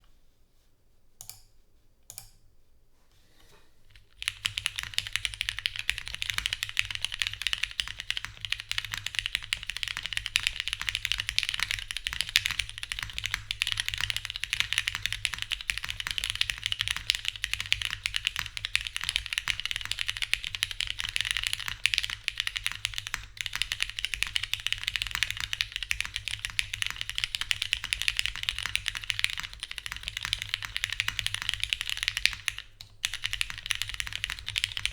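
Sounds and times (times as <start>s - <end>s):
mechanical keyboard typing: 4.0s - 34.9s.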